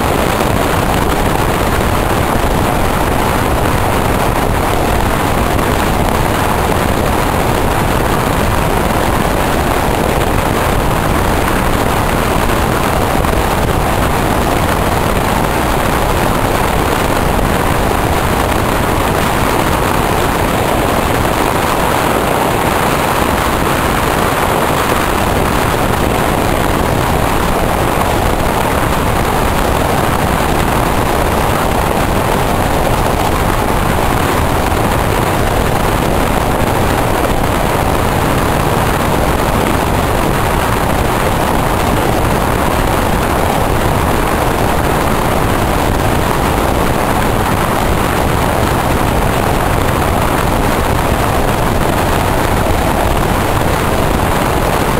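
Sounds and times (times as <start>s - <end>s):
wind blowing on microphone: 0.0s - 54.9s.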